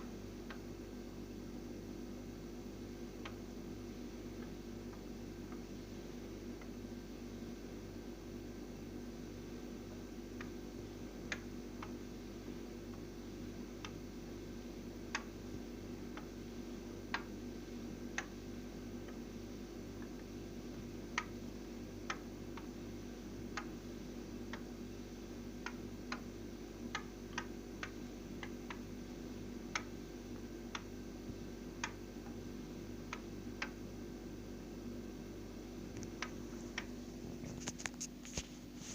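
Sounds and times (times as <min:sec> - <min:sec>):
refrigerator humming: 0:00.0 - 0:38.9.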